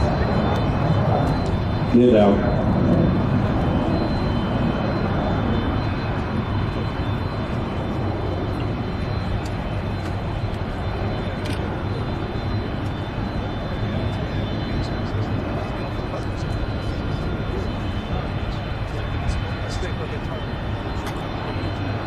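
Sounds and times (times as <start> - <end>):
jet engine rushing: 0.0 - 22.0.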